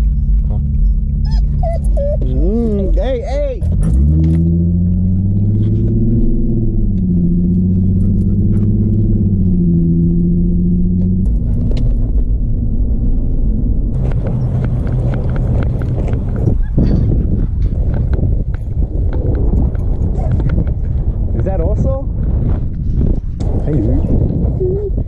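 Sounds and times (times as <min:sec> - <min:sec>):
car engine running: 0:00.0 - 0:21.6
rushing outdoor noise with clicks: 0:00.0 - 0:25.0.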